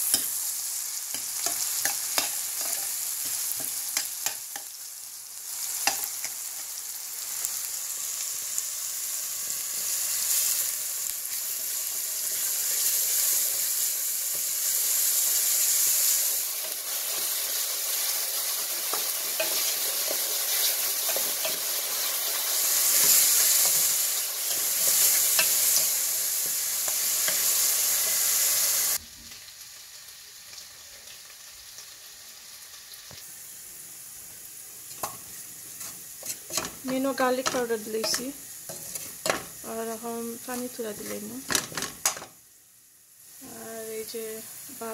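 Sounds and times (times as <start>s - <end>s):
food sizzling in oil: 0.0s - 44.9s.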